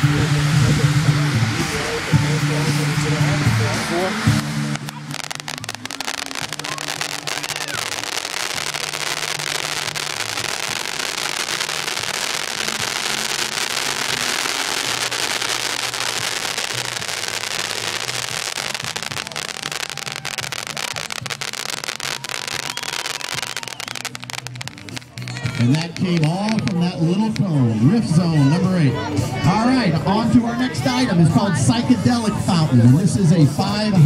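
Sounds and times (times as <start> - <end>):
firework fountain hissing crackle: 0.0 - 28.5.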